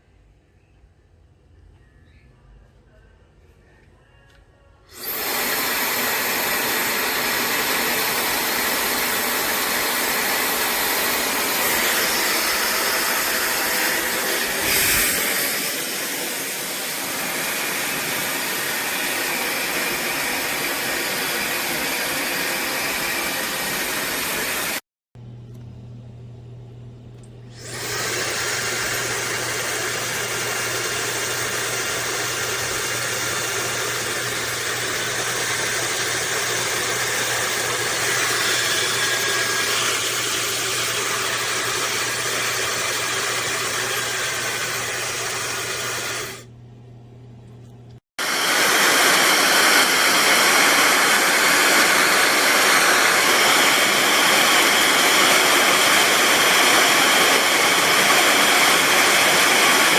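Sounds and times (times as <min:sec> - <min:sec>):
hair dryer blowing air: 0:04.9 - 0:24.9, 0:27.5 - 0:46.5, 0:48.2 - 0:59.9.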